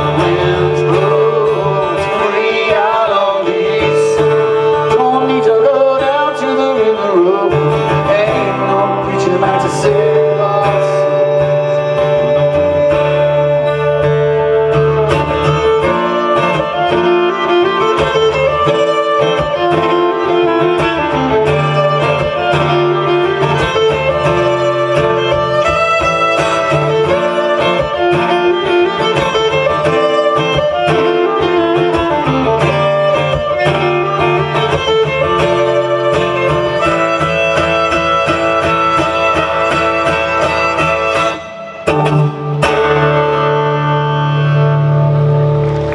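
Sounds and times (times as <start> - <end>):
live acoustic folk band: 0.0 - 45.9.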